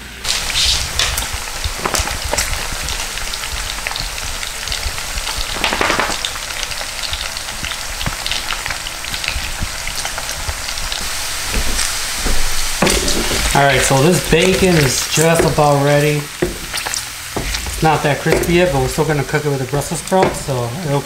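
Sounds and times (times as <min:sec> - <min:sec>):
bacon sizzling in a pan: 0:00.0 - 0:21.0.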